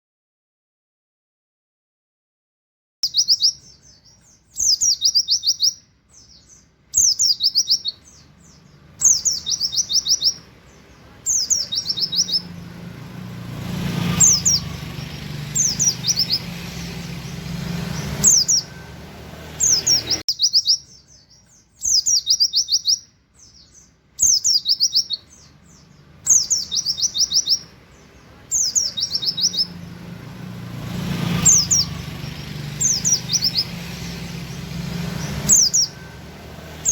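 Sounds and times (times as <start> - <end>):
bird singing high chirps: 3.0 - 36.9.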